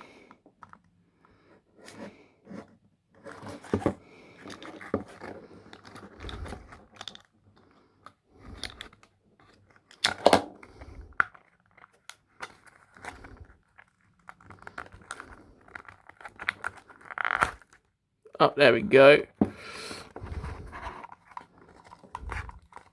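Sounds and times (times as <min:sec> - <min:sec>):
cardboard and plastic rustling: 0:01.8 - 0:07.6, 0:08.4 - 0:17.9, 0:19.4 - 0:22.9.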